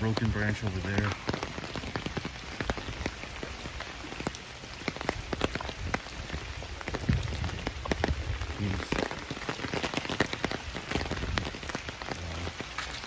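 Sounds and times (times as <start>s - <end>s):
rain hiss: 0.0s - 13.0s
raindrops ticking: 0.0s - 13.0s.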